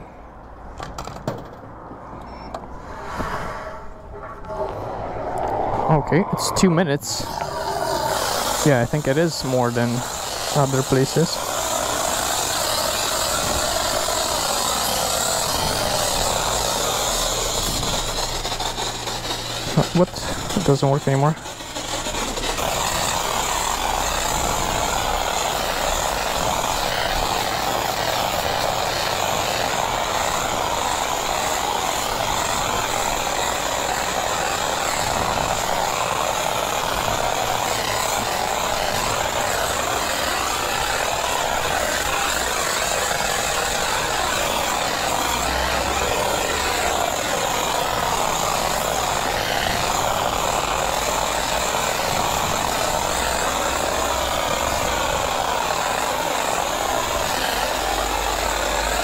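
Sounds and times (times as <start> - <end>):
jet-wash lance spraying water: 4.9 - 59.0.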